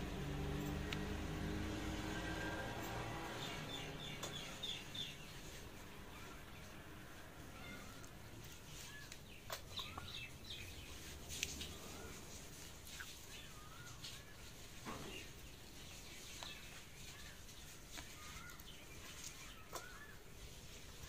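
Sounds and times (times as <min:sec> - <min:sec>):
faint bird chirping: 0:02.3 - 0:21.0.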